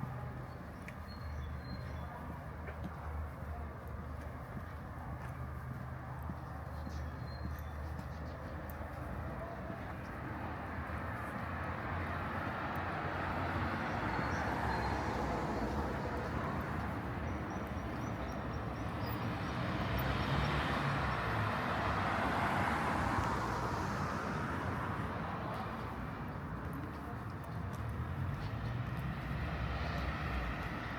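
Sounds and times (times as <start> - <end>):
street traffic rush: 0.0 - 30.9.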